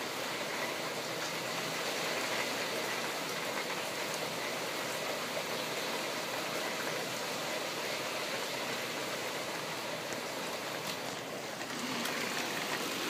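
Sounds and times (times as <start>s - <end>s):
rain pouring: 0.0s - 13.0s.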